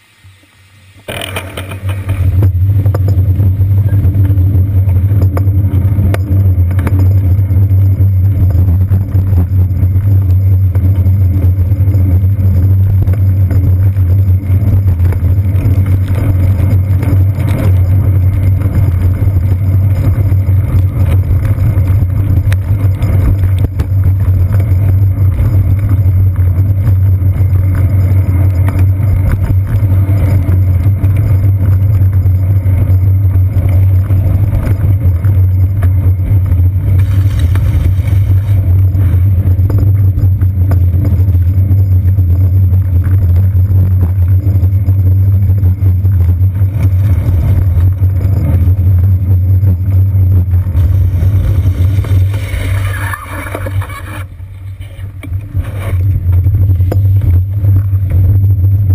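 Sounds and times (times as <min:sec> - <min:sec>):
bicycle road vibration rumble: 0:00.0 - 0:58.9
muffled city traffic: 0:00.0 - 0:58.9
wind on camera: 0:01.1 - 0:58.9.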